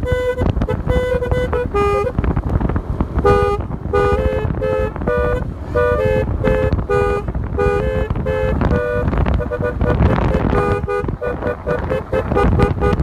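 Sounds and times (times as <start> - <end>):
low rumble: 0.0 - 13.0
multi-tone motorcycle horn tune: 0.0 - 13.0.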